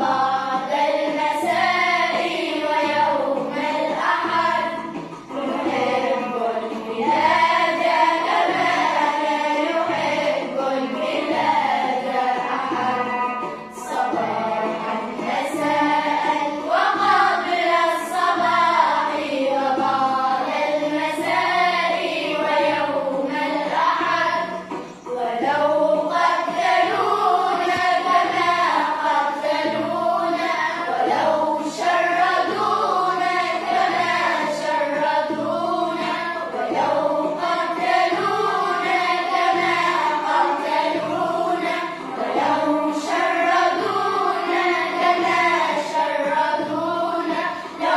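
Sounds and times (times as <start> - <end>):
girls choir singing: 0.0 - 47.9.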